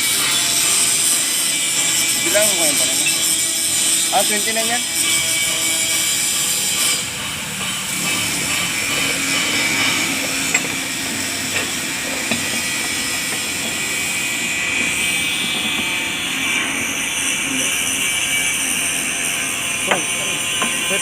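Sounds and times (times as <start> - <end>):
workshop machine hiss and whirr: 0.0 - 21.0.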